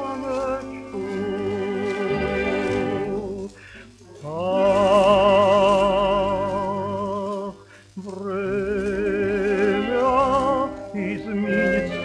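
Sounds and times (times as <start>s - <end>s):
orchestra playing: 0.0s - 7.6s, 9.0s - 12.0s
operatic singing: 0.0s - 12.0s.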